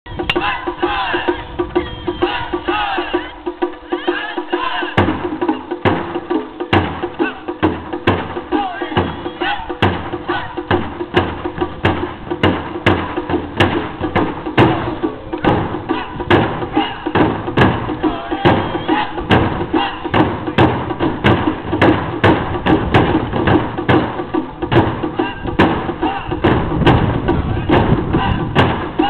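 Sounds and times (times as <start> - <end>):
taiko drums beating: 0.1 - 29.0.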